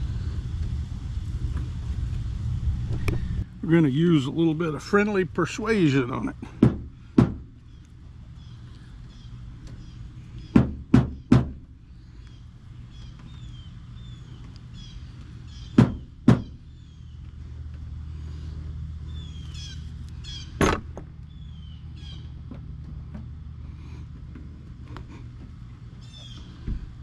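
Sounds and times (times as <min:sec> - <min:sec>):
steady low hum: 0:00.0 - 0:27.0
faint birds chirping: 0:03.0 - 0:27.0.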